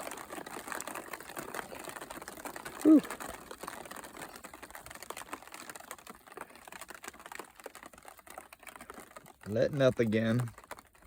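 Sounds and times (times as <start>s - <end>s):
big raindrops pattering: 0.0s - 11.0s.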